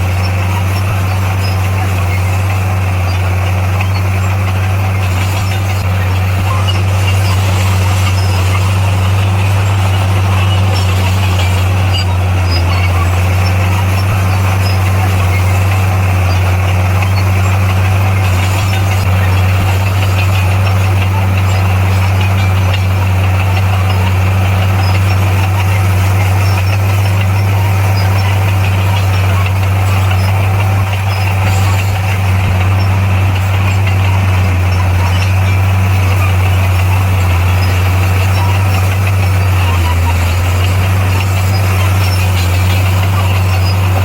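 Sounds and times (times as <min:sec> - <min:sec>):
heavy diesel engine humming: 0:00.0 - 0:44.0.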